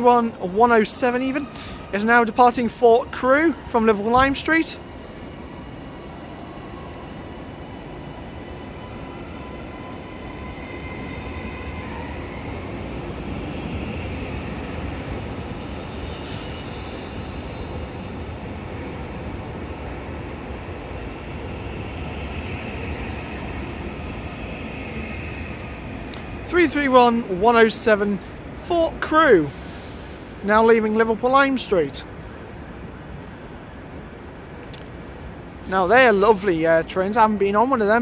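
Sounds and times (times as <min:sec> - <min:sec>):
train rumble: 0:00.0 - 0:38.0.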